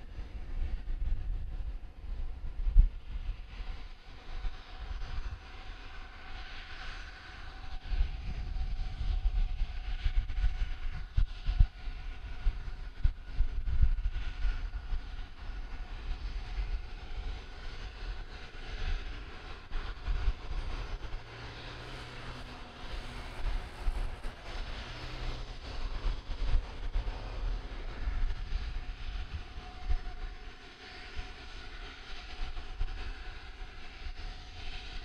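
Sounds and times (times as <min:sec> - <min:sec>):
faint steady whine: 0:00.0 - 0:35.0.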